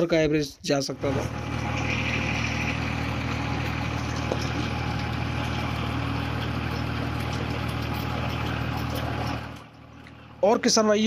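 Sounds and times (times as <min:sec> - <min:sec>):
tractor engine running: 0:01.0 - 0:10.6.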